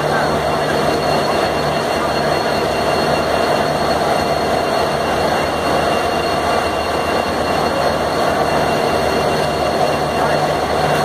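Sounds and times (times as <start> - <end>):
high whining tones: 0.0 - 11.0
locomotive engine drone: 0.0 - 11.0.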